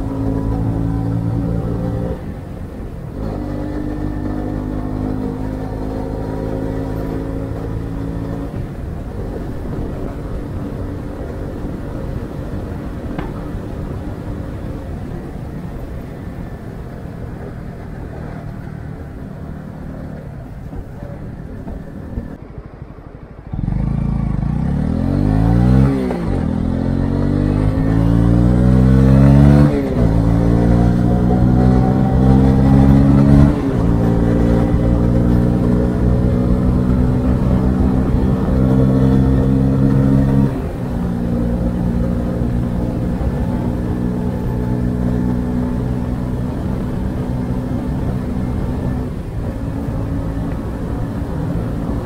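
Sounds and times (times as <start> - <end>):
motorcycle engine revving: 0.0 - 22.4, 23.5 - 52.0
road noise: 0.0 - 52.0
wind noise: 0.0 - 52.0.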